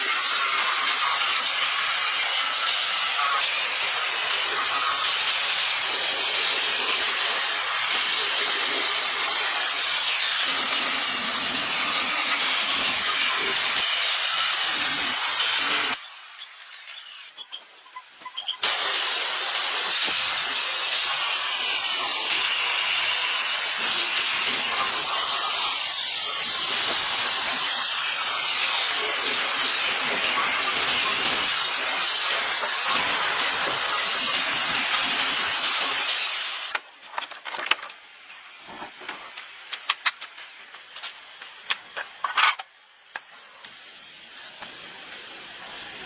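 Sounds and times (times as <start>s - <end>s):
high-pressure hiss: 0.0s - 17.4s, 18.3s - 36.8s, 38.8s - 46.0s.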